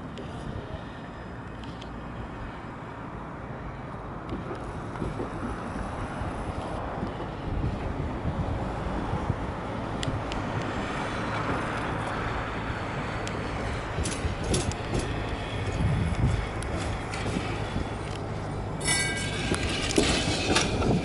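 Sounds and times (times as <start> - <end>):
street traffic: 0.0 - 21.0
tram rumbling: 0.0 - 21.0
wind buffeting microphone: 4.0 - 21.0.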